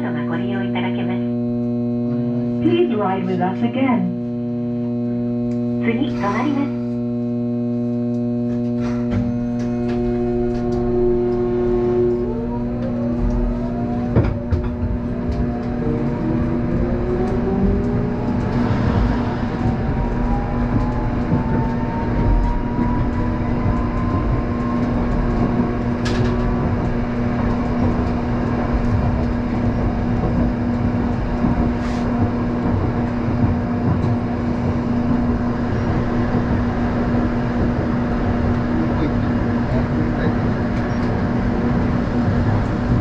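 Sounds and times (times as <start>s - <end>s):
tram running rumble and whine: 0.0s - 43.0s.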